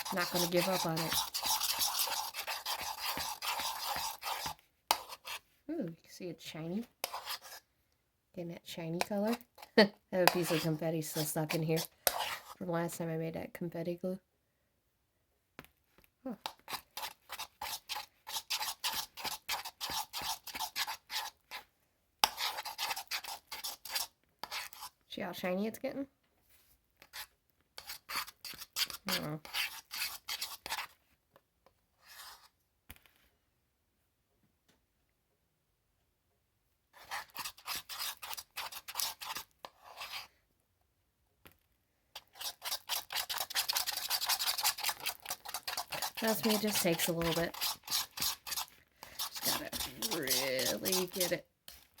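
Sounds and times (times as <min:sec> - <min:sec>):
slime being stirred and scraped: 0:00.0 - 0:07.8, 0:08.4 - 0:13.4, 0:15.6 - 0:33.2, 0:36.8 - 0:40.6, 0:41.3 - 0:52.0.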